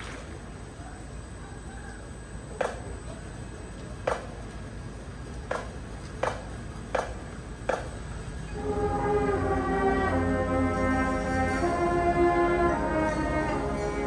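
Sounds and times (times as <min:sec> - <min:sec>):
low stadium background: 0:00.0 - 0:14.0.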